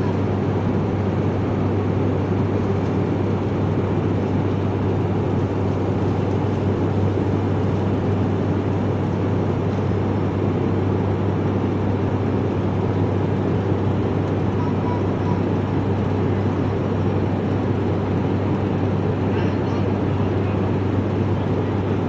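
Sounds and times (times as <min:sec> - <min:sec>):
aircraft cabin drone and hiss: 0:00.0 - 0:22.0.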